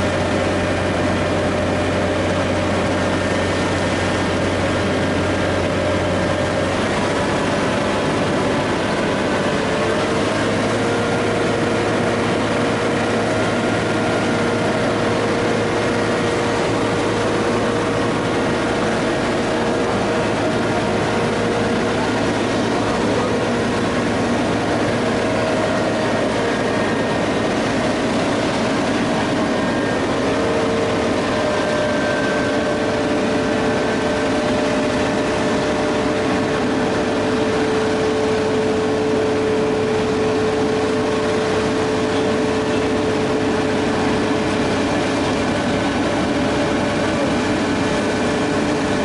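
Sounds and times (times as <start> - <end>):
diesel engine drone: 0.0 - 49.0.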